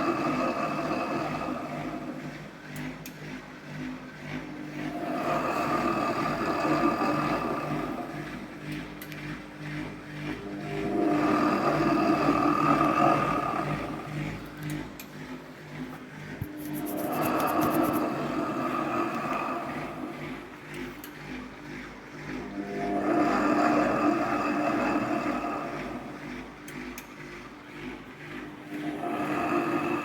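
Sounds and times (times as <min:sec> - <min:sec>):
washing machine drum spinning: 0:00.0 - 0:30.0.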